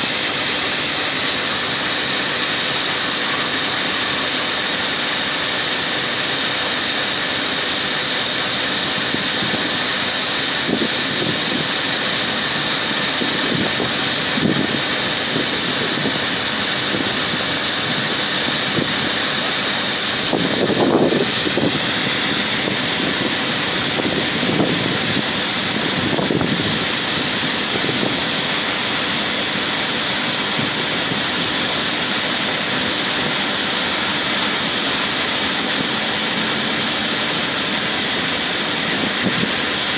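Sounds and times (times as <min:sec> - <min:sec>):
combine harvester whirring: 0:00.0 - 0:39.9.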